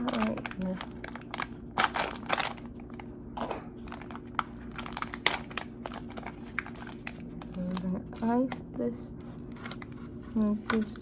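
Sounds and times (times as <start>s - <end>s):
crinkling and light clicks: 0.0s - 3.1s, 3.8s - 8.7s, 9.3s - 11.0s.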